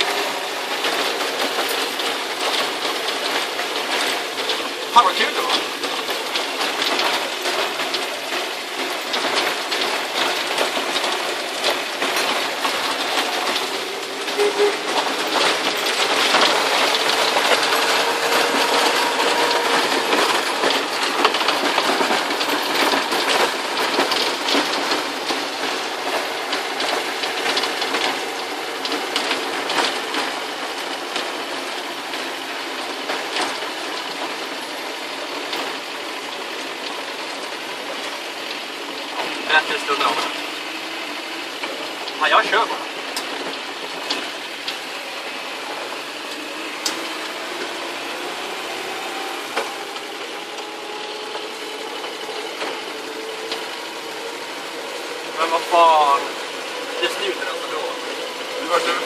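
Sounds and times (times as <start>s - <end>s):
vehicle cab rush: 0.0s - 59.0s.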